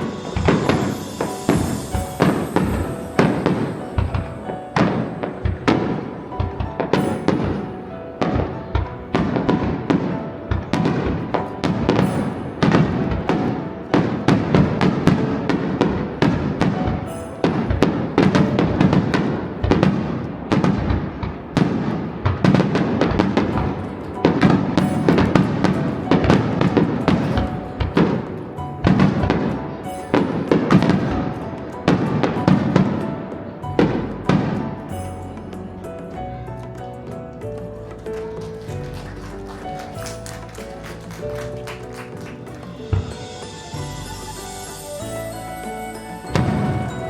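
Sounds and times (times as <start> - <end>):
fireworks bangs: 0.0 - 35.4, 38.3 - 45.1, 46.3 - 47.0
music: 0.0 - 47.0.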